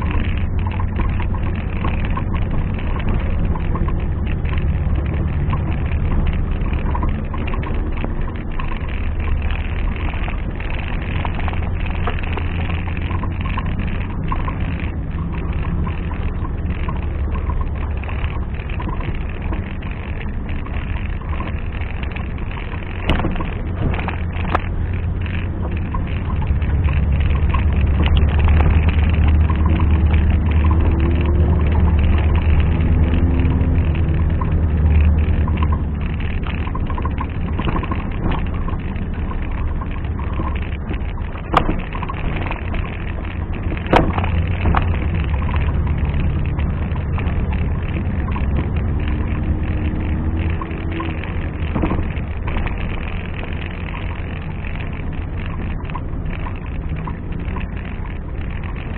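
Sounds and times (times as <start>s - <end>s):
car engine running: 0.0s - 58.9s.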